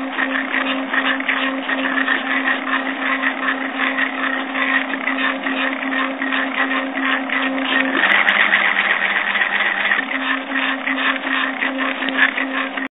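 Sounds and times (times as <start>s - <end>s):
stepper motor whine with rattle: 0.0s - 12.9s.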